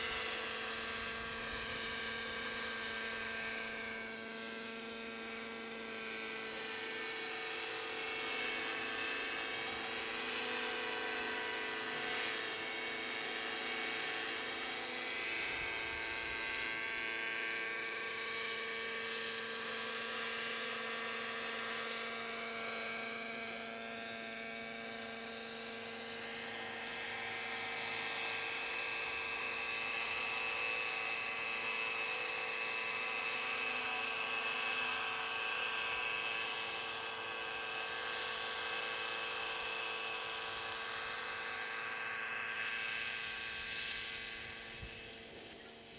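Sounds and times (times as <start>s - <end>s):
model helicopter engine whine: 0.0s - 45.9s.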